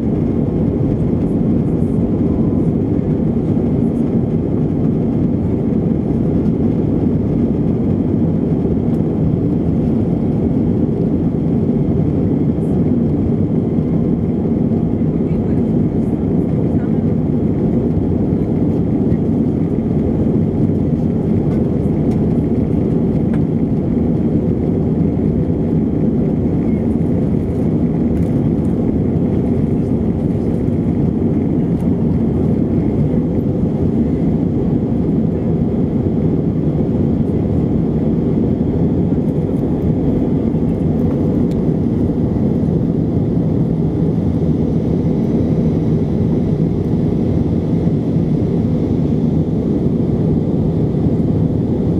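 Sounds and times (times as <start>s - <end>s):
airplane cabin engine noise: 0.0s - 51.9s.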